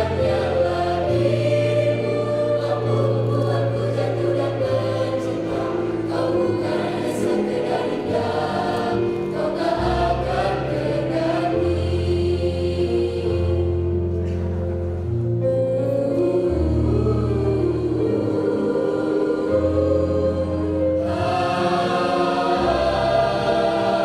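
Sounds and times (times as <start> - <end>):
mixed choir singing: 0.0 - 14.3, 15.8 - 24.0.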